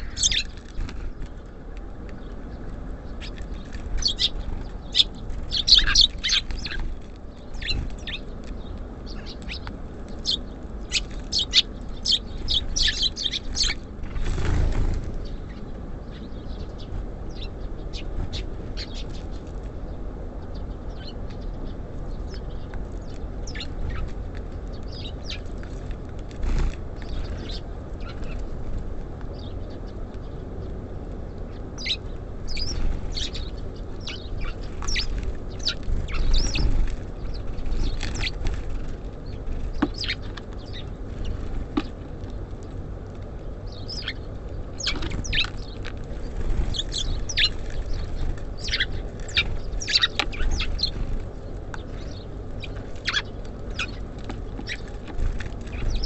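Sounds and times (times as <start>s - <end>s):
low background rumble: 0.0s - 56.0s
songbirds chirping: 0.0s - 56.0s.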